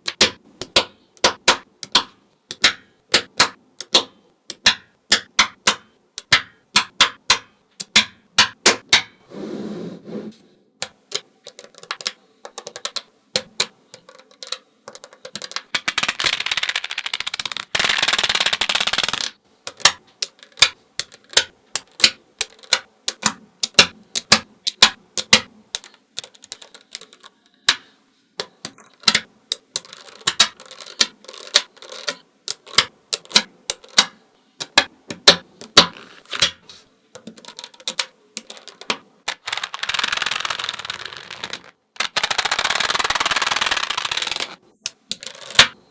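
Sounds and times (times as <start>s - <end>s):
magnetic balls snapping together: 0.0s - 9.2s, 10.8s - 45.9s.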